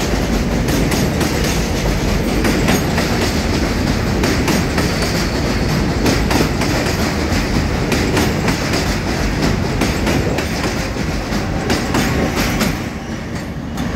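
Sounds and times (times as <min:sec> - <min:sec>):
subway train rumbling: 0:00.0 - 0:13.9.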